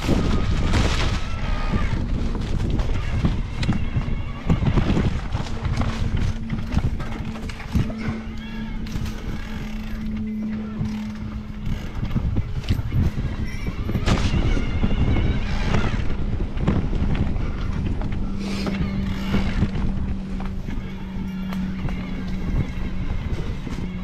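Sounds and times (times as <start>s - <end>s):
bike rattling and knocking: 0.0s - 24.0s
steady hum: 0.0s - 24.0s
tyres rolling over dirt: 0.0s - 24.0s
wind on microphone: 0.0s - 24.0s.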